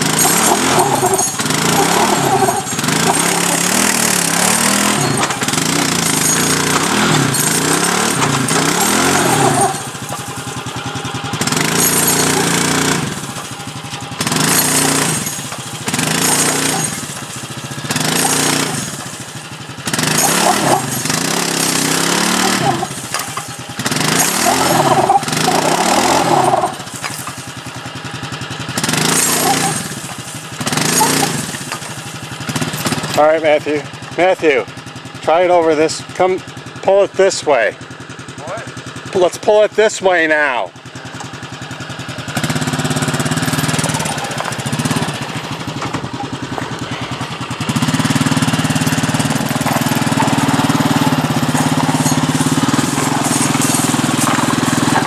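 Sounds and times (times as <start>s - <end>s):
engine revving under load: 0.0s - 39.6s, 40.3s - 55.0s.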